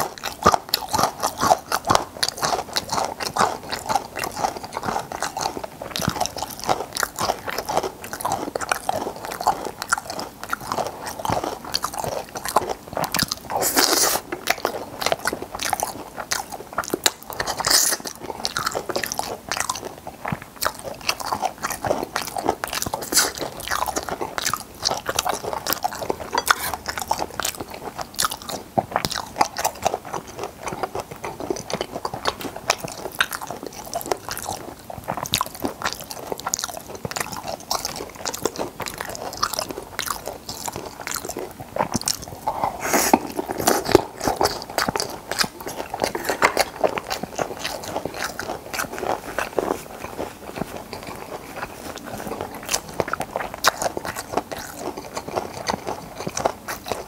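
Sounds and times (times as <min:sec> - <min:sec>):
wet crunchy chewing: 0:00.0 - 0:57.0.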